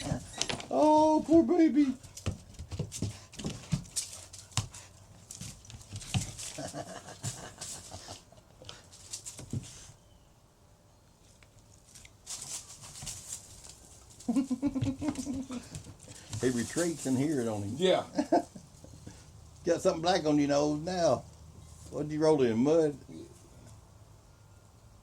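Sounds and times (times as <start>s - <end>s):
dog paws clicking and scuffling: 0.0s - 10.0s, 11.3s - 22.0s.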